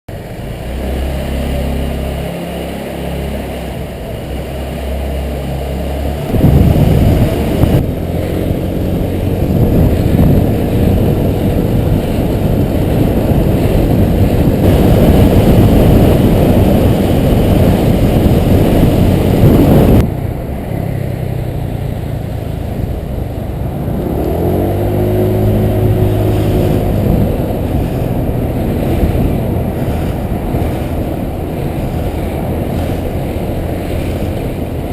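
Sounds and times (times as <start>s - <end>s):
rush of riding noise: 0.1s - 34.9s
scooter engine running: 0.1s - 34.9s.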